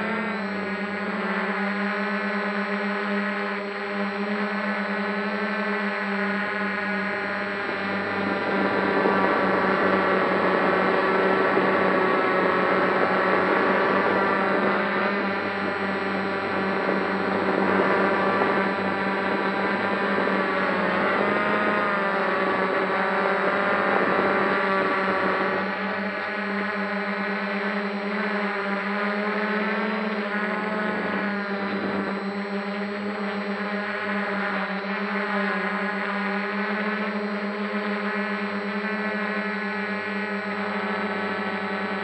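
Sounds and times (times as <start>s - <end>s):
drone propellers whirring: 0.0s - 42.0s.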